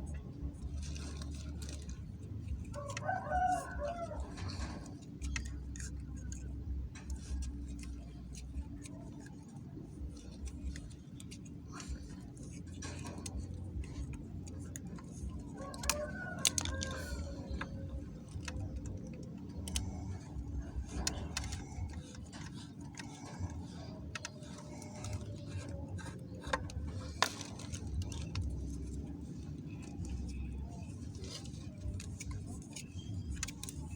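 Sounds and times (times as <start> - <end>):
steady low hum: 0.0 - 33.9
tools and metal parts clicking: 0.0 - 33.9.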